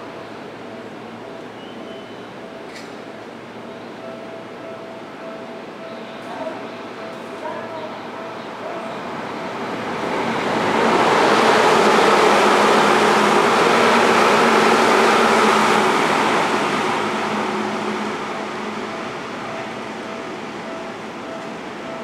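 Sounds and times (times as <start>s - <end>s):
electric train rumbling hiss: 0.0s - 22.0s.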